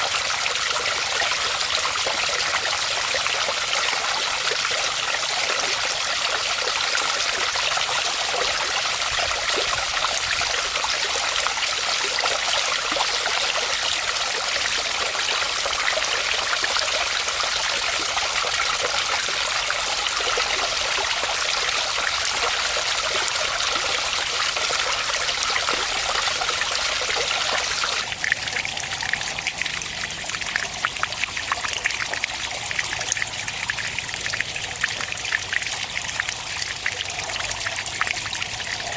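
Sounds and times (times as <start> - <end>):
pond waterfall splashing: 0.0 - 38.9
water drips and splashes: 0.0 - 38.9.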